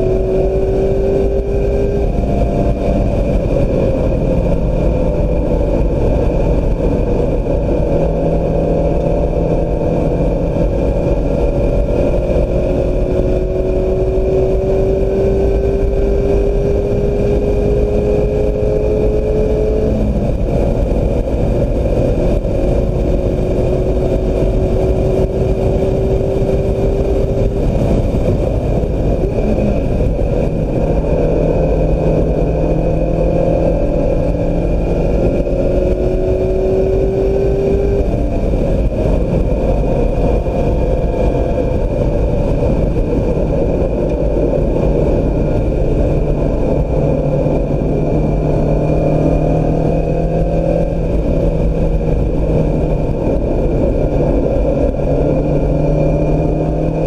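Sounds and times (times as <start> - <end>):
car engine accelerating: 0.0 - 57.0
wind and road rumble: 0.0 - 57.0.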